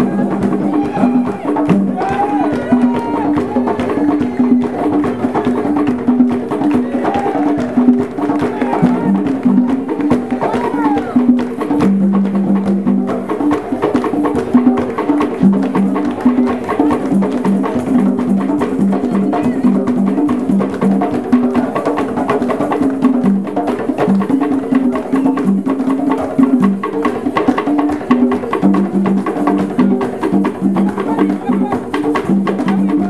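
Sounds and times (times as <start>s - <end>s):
people clapping: 0.0s - 25.5s, 26.1s - 33.0s
drum ensemble playing: 0.0s - 33.0s.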